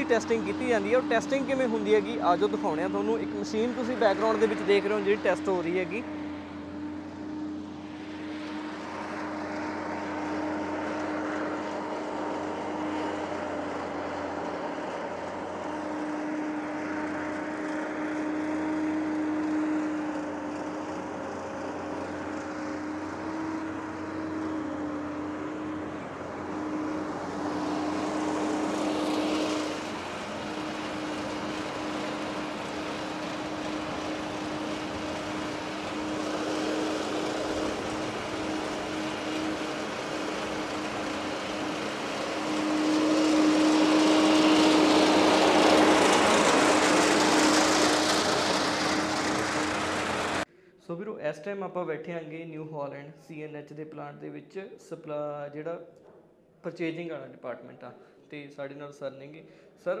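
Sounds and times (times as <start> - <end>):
harvester engine drone: 0.0 - 51.0.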